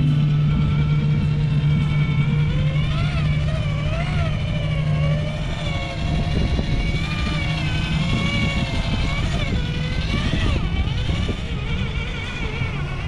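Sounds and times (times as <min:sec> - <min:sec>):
low rough rumble: 0:00.0 - 0:13.0
toy car electric motor whining: 0:00.0 - 0:13.0.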